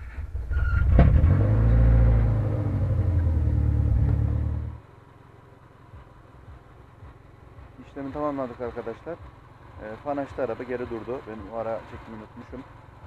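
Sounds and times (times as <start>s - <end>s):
car engine starting and running: 0.0s - 13.0s.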